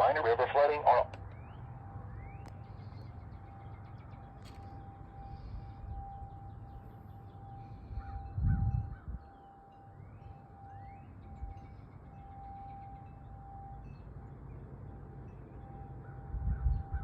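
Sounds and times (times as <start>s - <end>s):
tornado siren steady tone: 0.0s - 14.2s, 15.6s - 17.0s.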